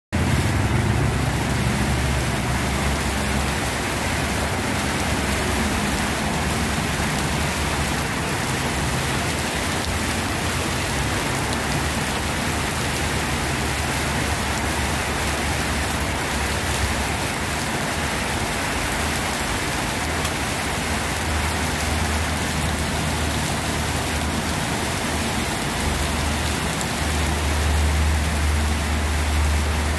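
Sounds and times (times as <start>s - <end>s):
rain hissing: 0.2s - 29.9s.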